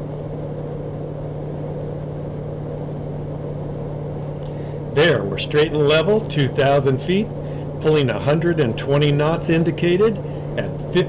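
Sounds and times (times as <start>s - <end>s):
airplane engine drone in cockpit: 0.0s - 11.0s.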